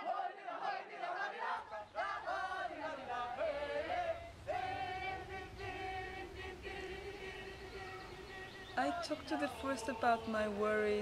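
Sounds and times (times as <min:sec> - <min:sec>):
people singing without words: 0:00.0 - 0:11.0.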